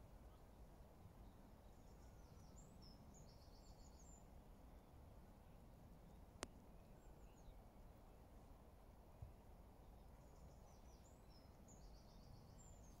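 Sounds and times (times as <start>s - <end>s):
faint low rumble: 0.0s - 13.0s.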